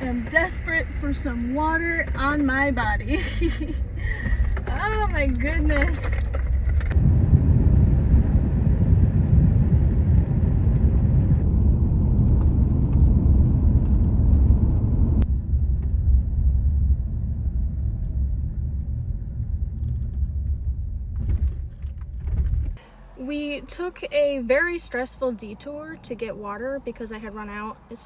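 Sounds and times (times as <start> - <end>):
vehicle interior road rumble: 0.0 - 28.0.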